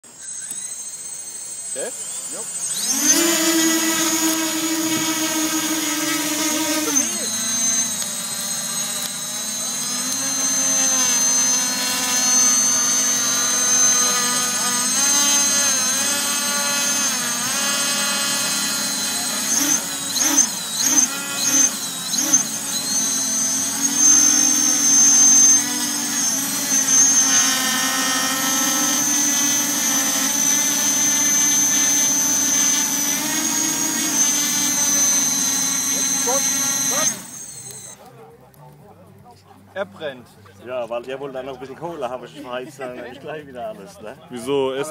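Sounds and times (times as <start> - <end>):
drone motors whining: 0.0 - 38.6.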